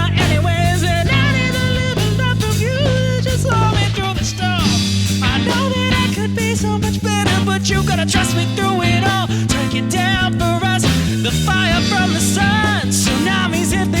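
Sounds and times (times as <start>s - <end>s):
drum kit: 0.0s - 14.0s
electric bass: 0.0s - 14.0s
lead melody with bending notes: 0.0s - 14.0s.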